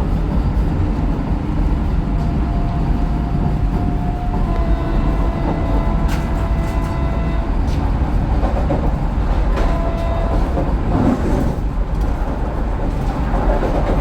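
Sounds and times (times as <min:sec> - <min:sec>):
train cabin rumble: 0:00.0 - 0:14.0.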